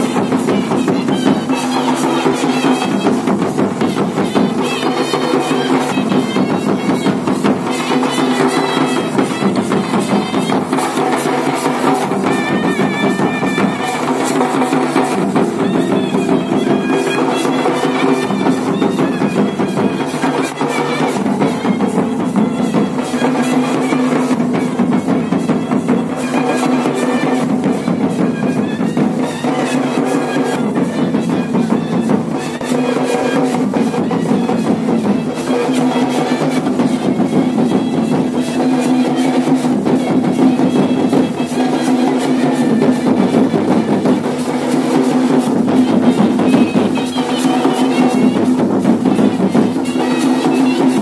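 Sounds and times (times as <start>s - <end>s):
steady drum beat: 0.0s - 51.0s.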